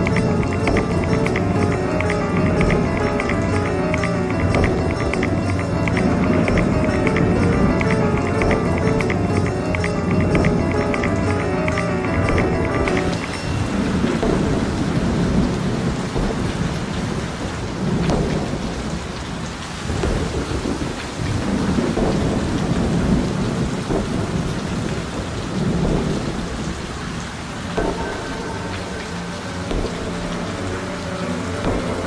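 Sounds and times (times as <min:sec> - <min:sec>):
rain-like electronic hiss: 0:00.0 - 0:32.0.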